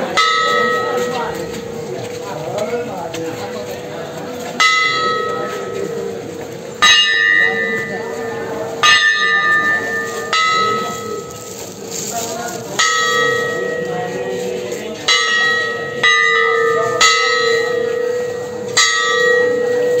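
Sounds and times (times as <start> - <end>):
temple bell struck: 0.0 - 2.6, 4.5 - 11.5, 12.8 - 20.0.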